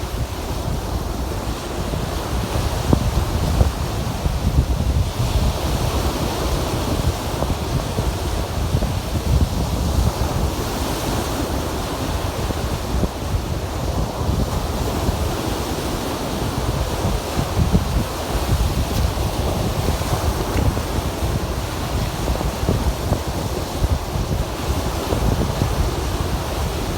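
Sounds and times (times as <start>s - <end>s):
waves breaking on shore: 0.0s - 26.9s
wind buffeting microphone: 0.0s - 26.9s.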